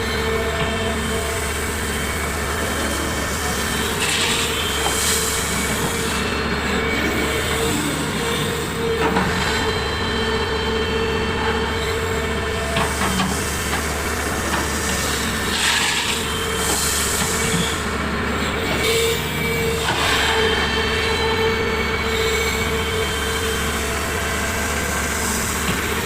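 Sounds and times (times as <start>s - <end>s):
diesel engine drone: 0.0s - 26.0s
high machine whine: 0.0s - 26.0s.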